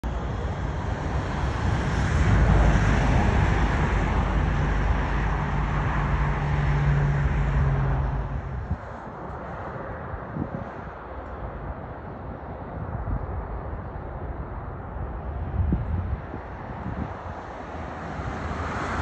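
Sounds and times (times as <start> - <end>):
traffic noise: 0.0 - 19.0
vehicle engine rumble: 0.0 - 19.0.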